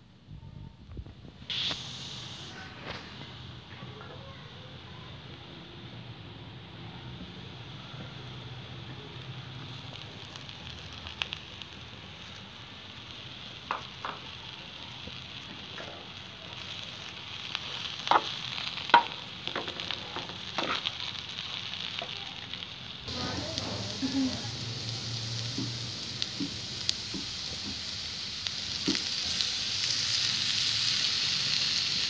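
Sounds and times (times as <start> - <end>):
potatoes sizzling in oil: 1.5 - 32.0.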